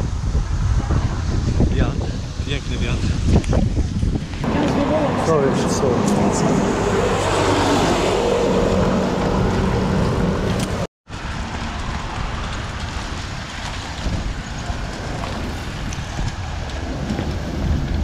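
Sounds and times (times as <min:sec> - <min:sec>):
road traffic: 0:00.0 - 0:18.0
wind rushing over microphone: 0:00.0 - 0:18.0.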